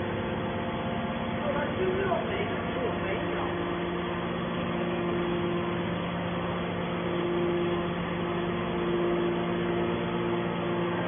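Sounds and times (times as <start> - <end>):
hydraulic pump whine: 0.0 - 11.0
machine hum: 0.0 - 11.0.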